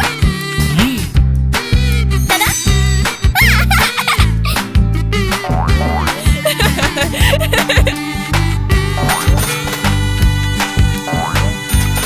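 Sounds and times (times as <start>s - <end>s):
cartoon background music: 0.0s - 12.0s.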